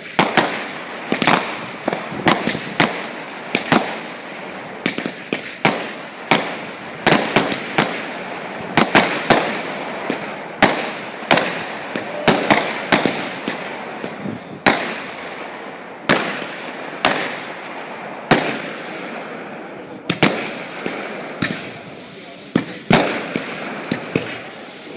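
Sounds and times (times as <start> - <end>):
fireworks bangs: 0.0 - 24.9.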